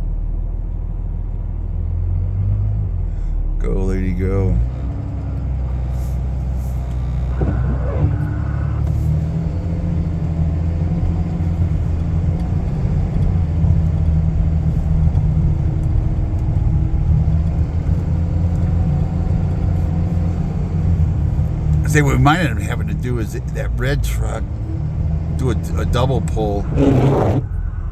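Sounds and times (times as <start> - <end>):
vehicle engine rumble: 0.0 - 27.9.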